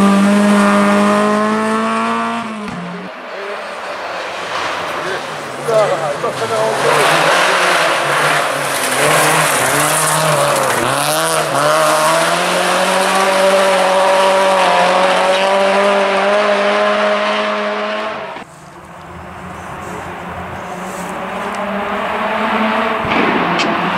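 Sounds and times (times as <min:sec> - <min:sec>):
faint engine: 0:00.0 - 0:23.9
rally car engine at high revs: 0:00.0 - 0:23.9.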